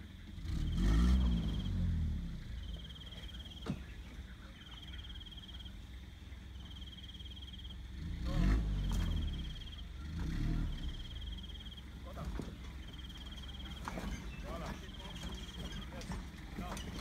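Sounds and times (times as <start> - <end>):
pickup engine running low: 0.0 - 17.0.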